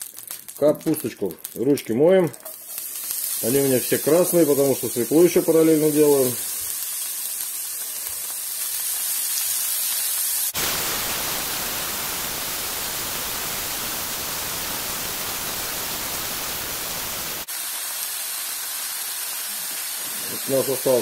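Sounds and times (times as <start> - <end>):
sauerkraut sizzling in a frying pan: 0.0 - 21.0.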